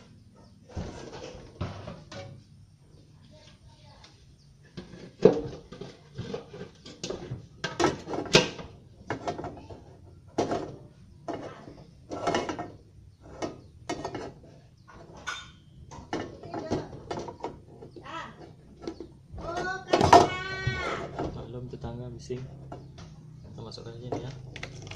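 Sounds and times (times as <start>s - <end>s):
sharp knocking and clattering: 4.6s - 24.9s.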